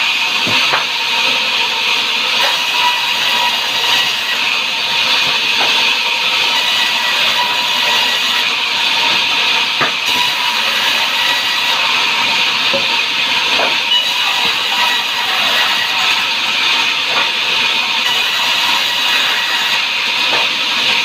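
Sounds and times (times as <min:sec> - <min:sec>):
sawmill saw cutting timber: 0:00.0 - 0:21.0.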